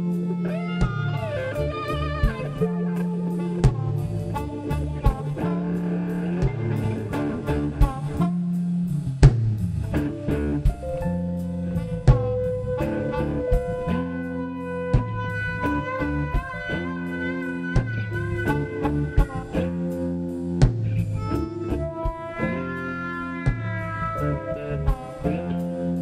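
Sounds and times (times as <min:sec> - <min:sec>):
harmonica holding long notes: 0:00.0 - 0:09.2, 0:09.8 - 0:26.0
bass line: 0:00.0 - 0:26.0
bowed violin: 0:00.0 - 0:26.0
drum kit: 0:00.0 - 0:26.0
electric guitar: 0:00.0 - 0:26.0.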